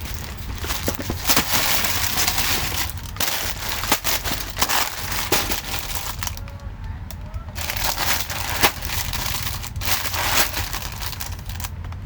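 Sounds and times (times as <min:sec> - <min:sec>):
crisps crunching and crinkling: 0:00.0 - 0:12.0
steady low hum: 0:00.0 - 0:12.0.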